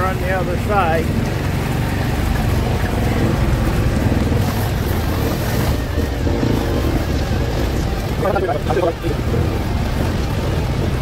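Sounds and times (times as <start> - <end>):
utility vehicle engine droning: 0.0 - 11.0.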